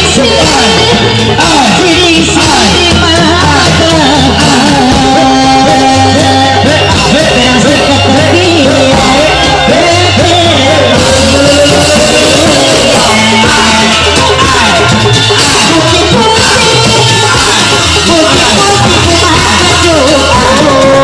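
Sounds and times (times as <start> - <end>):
folk music over loudspeakers: 0.0 - 21.0.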